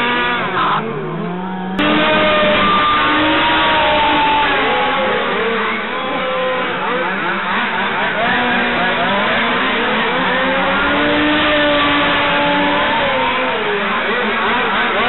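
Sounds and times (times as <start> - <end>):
small two-stroke engines racing: 0.0 - 15.0.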